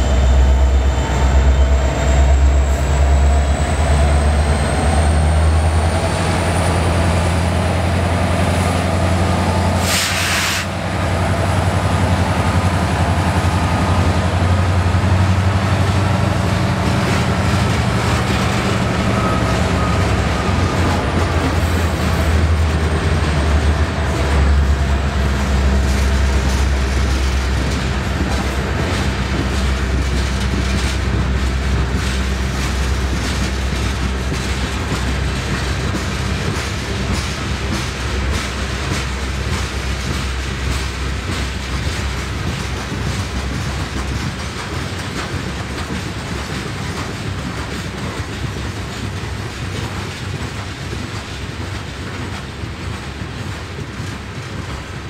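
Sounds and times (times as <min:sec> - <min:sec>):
locomotive engine drone: 0:00.0 - 0:55.0
wheels clicking on rails: 0:00.0 - 0:55.0.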